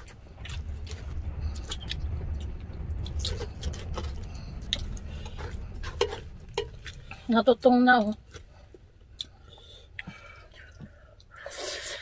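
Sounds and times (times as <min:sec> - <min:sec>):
low steady rumble: 0:00.0 - 0:11.5.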